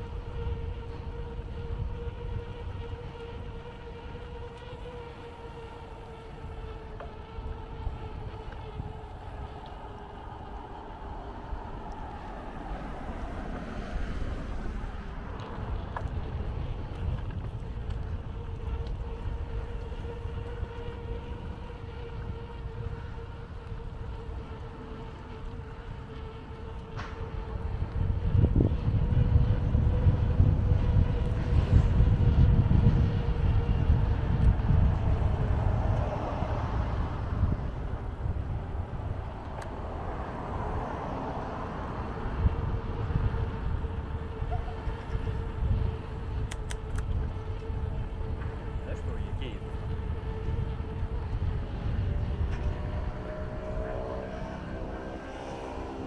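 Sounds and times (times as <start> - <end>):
faint steady hum: 0.0 - 52.7
city traffic: 0.0 - 56.0
wind buffeting microphone: 0.0 - 56.0.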